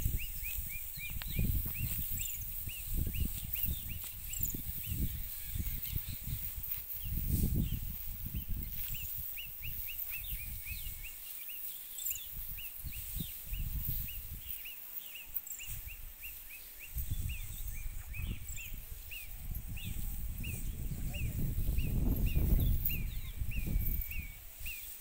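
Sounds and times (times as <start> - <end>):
wind buffeting microphone: 0.0 - 11.2, 12.3 - 14.5, 15.7 - 24.8.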